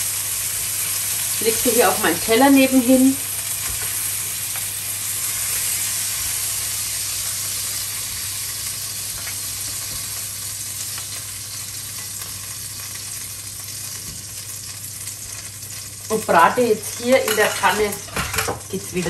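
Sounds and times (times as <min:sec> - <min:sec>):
liver sizzling in hot oil: 0:00.0 - 0:19.0.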